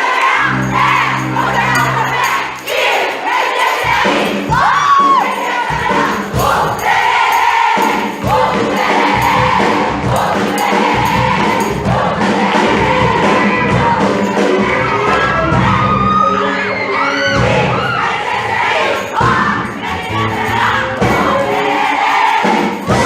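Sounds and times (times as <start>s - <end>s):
backing music: 0.0s - 23.0s
group of voices singing: 0.0s - 23.0s.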